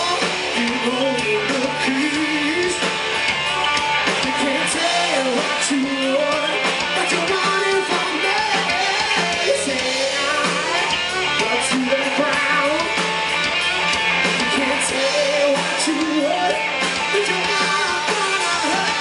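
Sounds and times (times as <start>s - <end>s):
person singing: 0.0s - 2.9s, 4.1s - 13.0s, 14.3s - 19.0s
drum kit: 0.0s - 19.0s
electric guitars: 0.0s - 19.0s.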